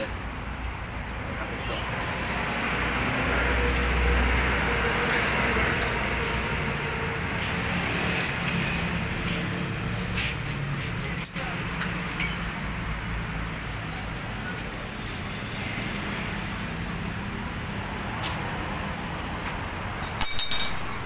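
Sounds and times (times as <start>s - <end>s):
background traffic: 0.0s - 21.0s.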